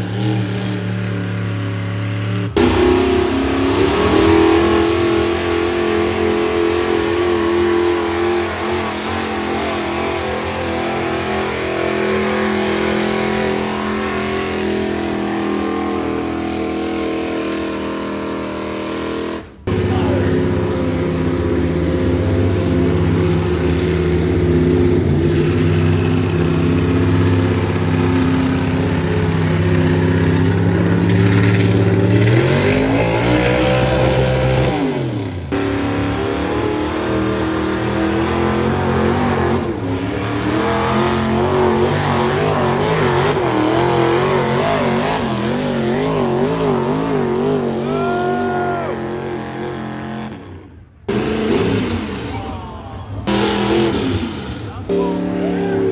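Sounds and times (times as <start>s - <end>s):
engine running under load: 0.0s - 55.9s.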